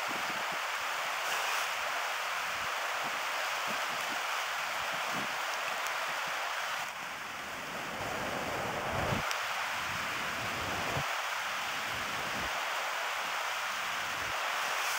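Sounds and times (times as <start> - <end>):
creek water rushing over rocks: 0.0 - 14.9.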